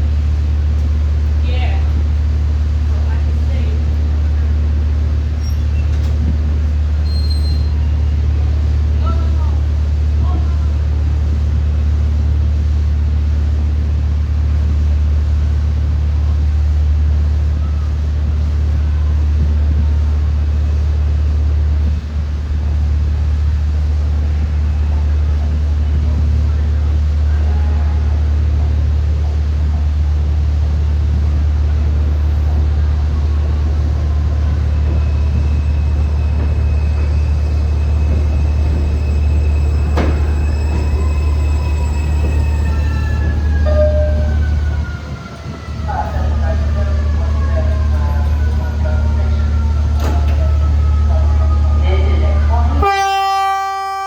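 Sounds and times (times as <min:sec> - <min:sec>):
subway train rumbling: 0:00.0 - 0:54.0.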